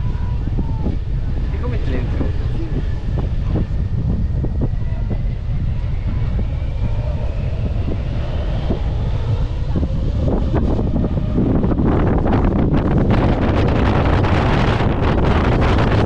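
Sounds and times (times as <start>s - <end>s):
faint jet engine whine: 0.0s - 16.0s
wind buffeting microphone: 0.0s - 16.0s.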